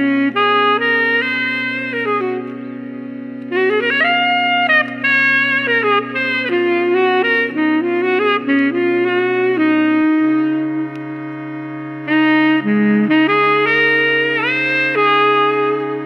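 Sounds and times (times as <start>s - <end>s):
low held drone: 0.0s - 16.0s
saxophone phrase: 0.0s - 16.0s.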